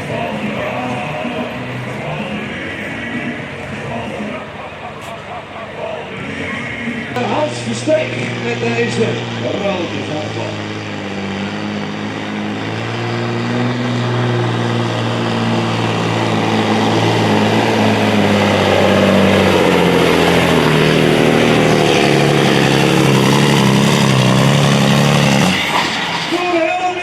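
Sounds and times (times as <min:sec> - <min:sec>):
truck engine running hard: 0:00.0 - 0:27.0.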